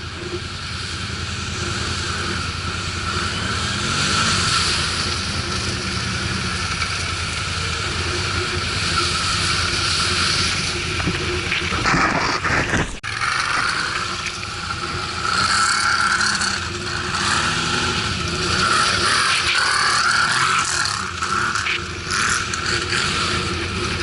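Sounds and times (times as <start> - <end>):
atv engines running: 0.0 - 24.0
steady rushing noise: 0.0 - 24.0.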